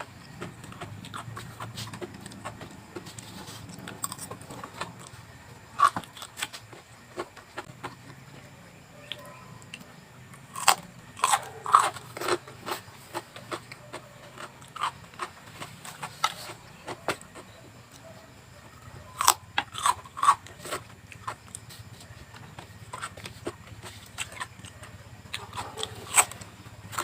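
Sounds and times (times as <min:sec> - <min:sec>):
crunchy vegetables being chewed: 0:00.0 - 0:27.0.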